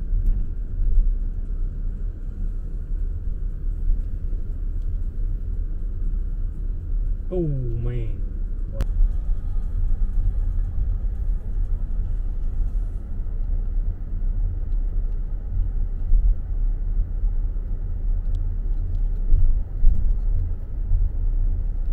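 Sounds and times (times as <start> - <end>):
car driving from inside cabin: 0.0 - 21.9.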